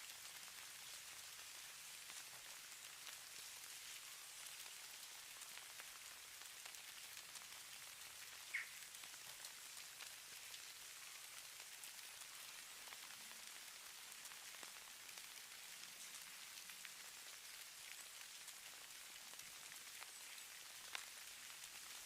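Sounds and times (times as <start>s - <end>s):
snow falling with fine ticks: 0.0s - 22.0s.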